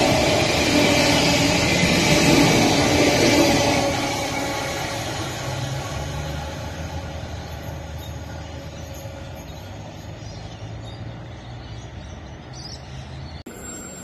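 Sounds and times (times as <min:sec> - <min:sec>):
train rumble: 0:00.0 - 0:12.5.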